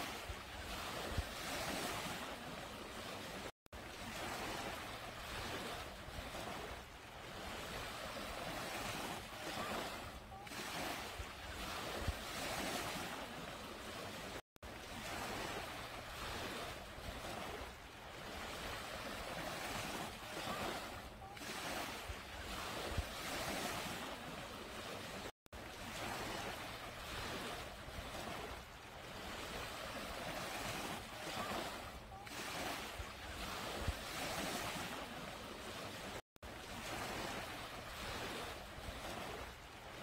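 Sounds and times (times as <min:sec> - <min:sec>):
small waves washing on a beach: 0:00.0 - 0:40.0.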